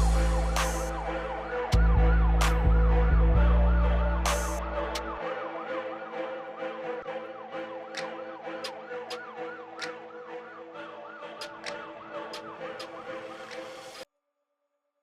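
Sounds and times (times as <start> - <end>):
siren-style yelp: 0.0 - 14.0.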